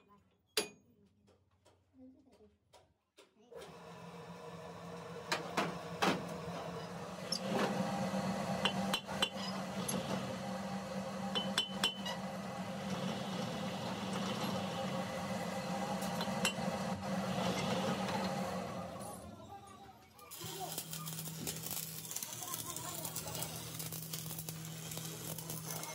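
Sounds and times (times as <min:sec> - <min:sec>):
steady machine hum: 0:03.6 - 0:25.9.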